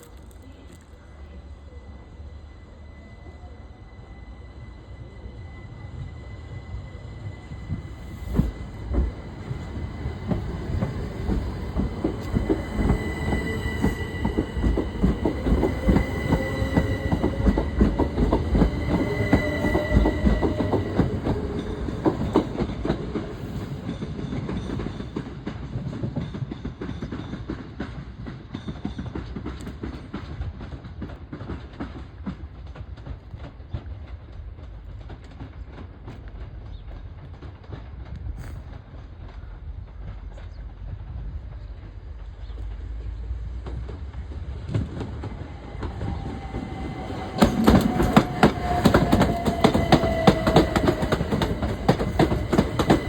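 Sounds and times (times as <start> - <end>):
train wheels clicking over rail joints: 7.7 - 53.0.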